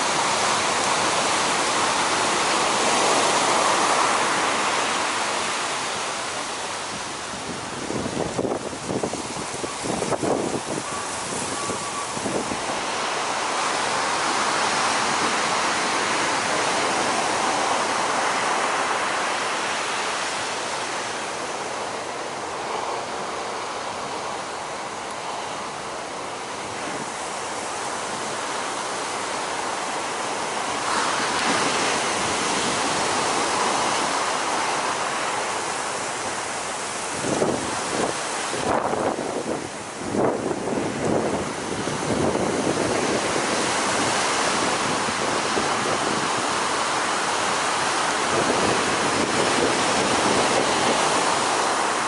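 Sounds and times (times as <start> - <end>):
heavy surf of breaking waves: 0.0 - 52.0.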